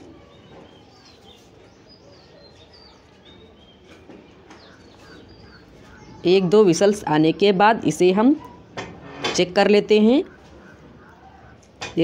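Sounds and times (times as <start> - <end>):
small birds chirping: 0.0 - 8.8, 9.6 - 12.0
faint steady background noise: 0.0 - 12.0.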